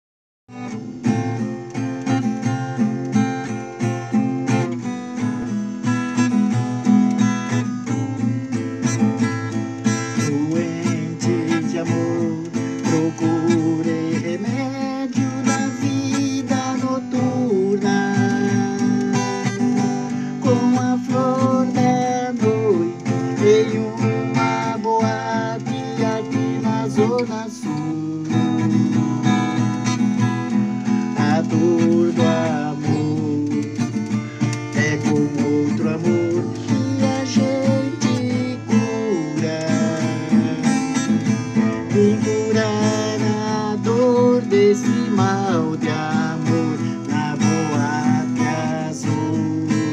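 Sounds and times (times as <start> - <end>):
acoustic guitar strumming: 0.5 - 49.9.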